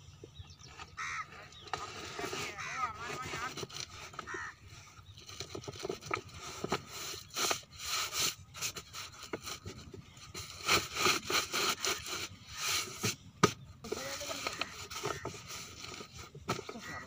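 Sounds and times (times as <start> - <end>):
plastic pipe rustling and scraping: 0.2 - 17.0.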